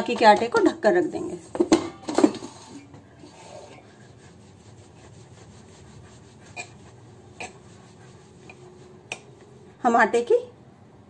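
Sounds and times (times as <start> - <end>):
palms rolling dough on marble: 0.0 - 9.8.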